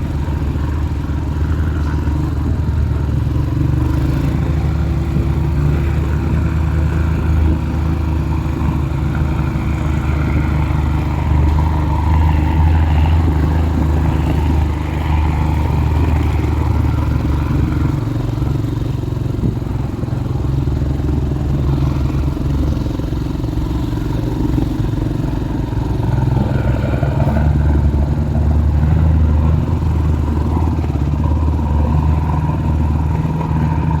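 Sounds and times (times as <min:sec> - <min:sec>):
heavy vehicle engine running: 0:00.0 - 0:34.0.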